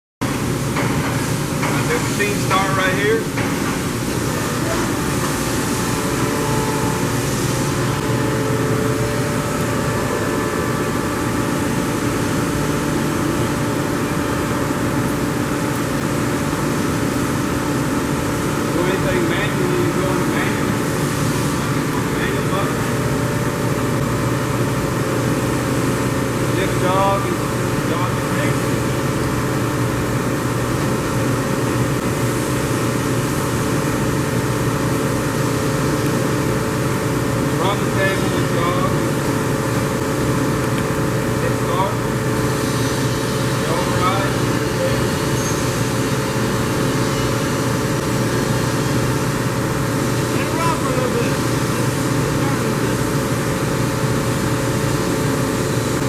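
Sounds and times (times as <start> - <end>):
boring mill humming: 0.2 - 56.0
steady machine tones: 0.4 - 56.0.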